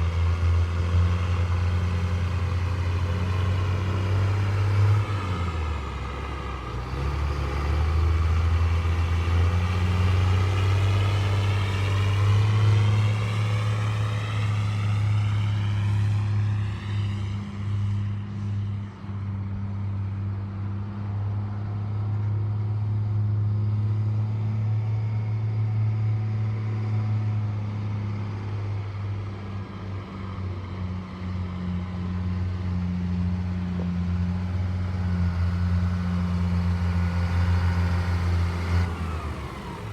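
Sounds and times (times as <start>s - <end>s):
diesel truck engine humming: 0.0s - 15.4s, 20.8s - 39.9s.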